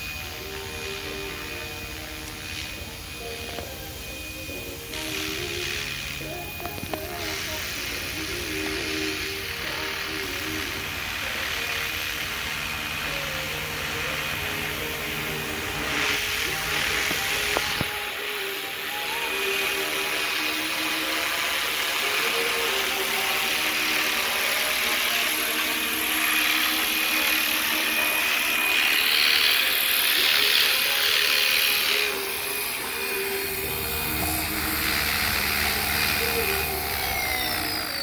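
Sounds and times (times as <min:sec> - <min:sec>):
rc helicopter motor whine: 0:00.0 - 0:38.0.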